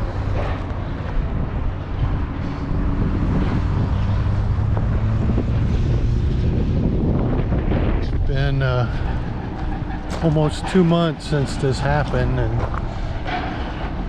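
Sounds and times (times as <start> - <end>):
low engine drone: 0.0 - 14.0
wind noise on microphone: 0.0 - 14.0.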